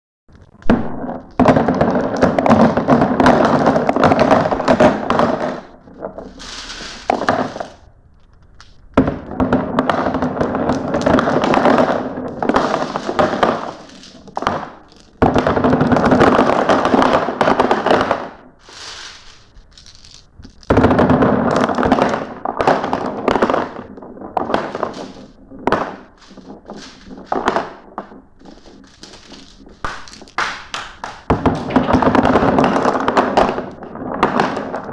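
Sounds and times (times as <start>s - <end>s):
glass marbles rolling and clattering: 0.3s - 34.9s.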